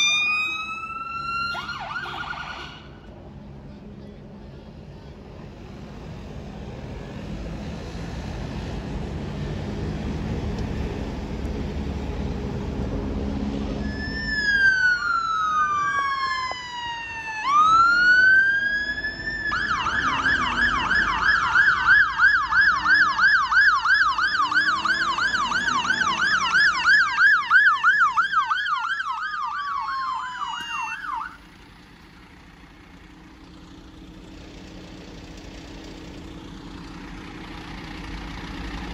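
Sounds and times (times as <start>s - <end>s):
fire engine siren: 0.0s - 3.1s, 6.7s - 35.6s
rumbling traffic: 0.0s - 38.9s.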